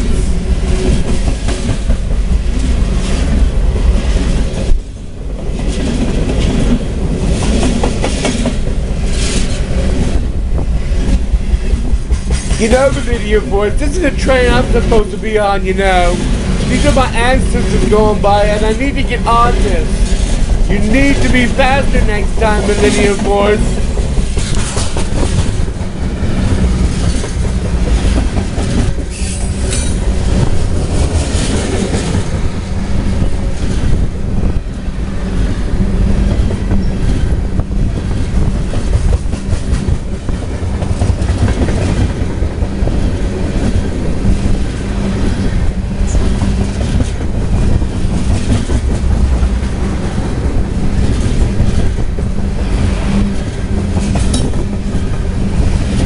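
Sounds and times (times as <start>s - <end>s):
freight train rumbling past: 0.0s - 56.0s
train wheels clicking over rail joints: 0.0s - 56.0s.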